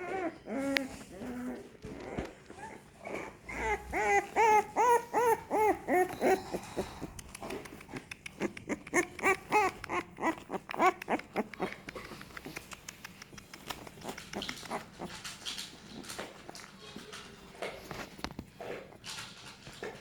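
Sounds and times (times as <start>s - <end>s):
puppy whine: 0.0s - 16.7s
puppies whimpering: 0.0s - 18.0s
scratching and rustling on bedding: 0.0s - 20.0s.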